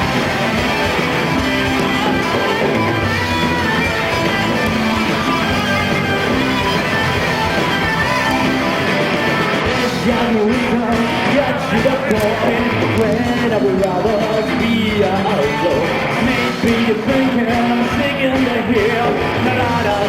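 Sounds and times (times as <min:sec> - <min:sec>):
live band playing: 0:00.0 - 0:20.0
strummed guitars: 0:00.0 - 0:20.0.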